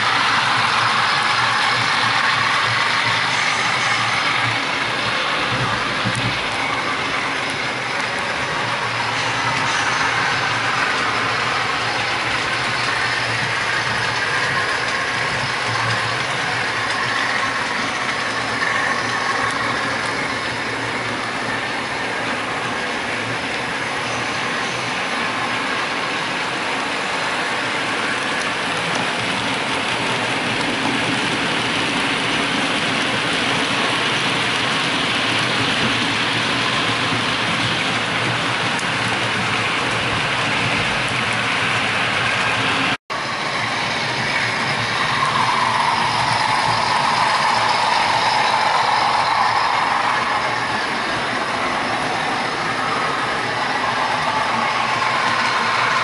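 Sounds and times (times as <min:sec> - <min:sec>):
wheels rolling over track: 0:00.0 - 0:56.0.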